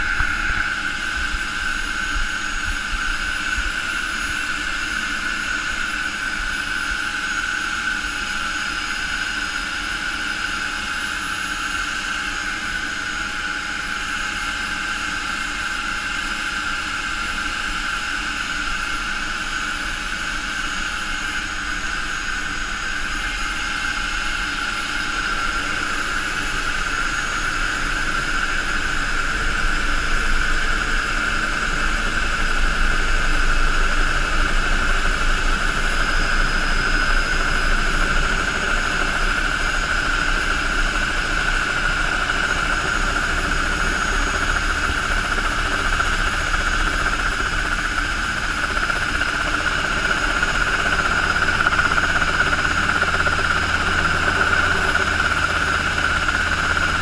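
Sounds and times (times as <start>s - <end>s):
gas turbine whine: 0.0s - 57.0s
helicopter rotor beat: 0.0s - 57.0s.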